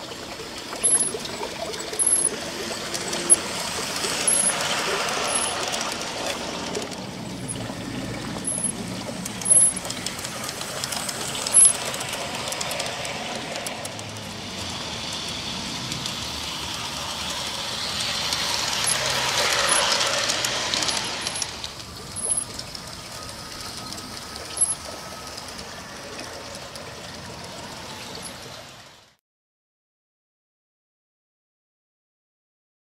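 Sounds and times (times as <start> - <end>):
model train wheels rattling: 0.0 - 29.1.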